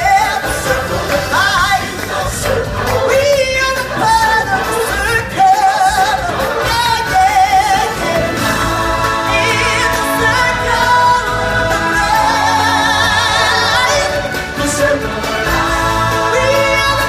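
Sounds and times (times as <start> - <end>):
musical accompaniment: 0.0 - 17.0
singers with vibrato: 0.0 - 17.0.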